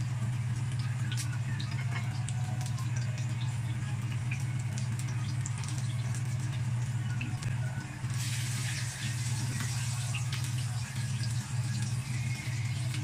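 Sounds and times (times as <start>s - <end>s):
steady low hum: 0.0s - 13.0s
vegetables frying in oil: 0.0s - 13.0s.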